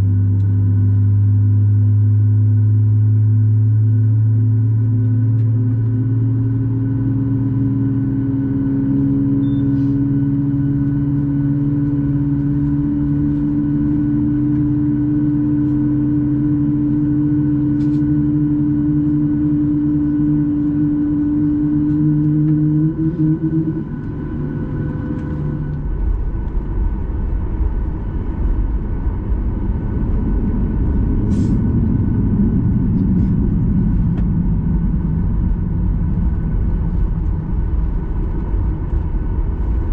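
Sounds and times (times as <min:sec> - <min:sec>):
deep rumble of takeoff roll: 0:00.0 - 0:39.9
jet engine droning hum: 0:00.0 - 0:39.9.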